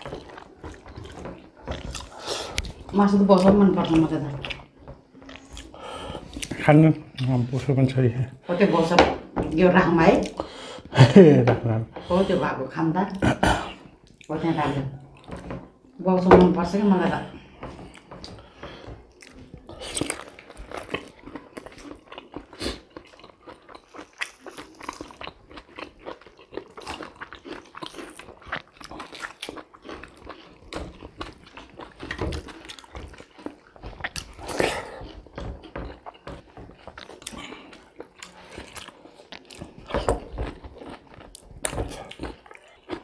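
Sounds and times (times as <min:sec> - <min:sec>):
biting and chewing: 0:00.0 - 0:07.8, 0:13.2 - 0:43.0.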